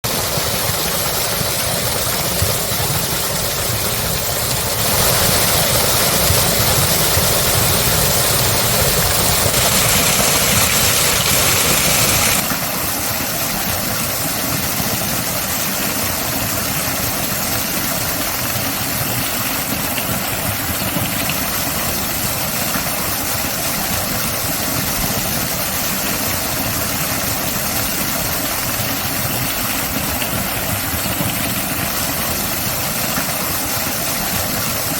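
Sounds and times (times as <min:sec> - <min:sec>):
waterfall splashing: 0:00.1 - 0:34.9.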